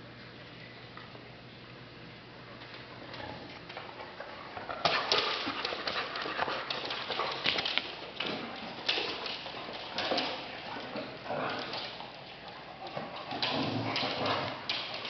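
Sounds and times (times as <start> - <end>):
claws scrabbling on hardwood floor: 2.6 - 15.0.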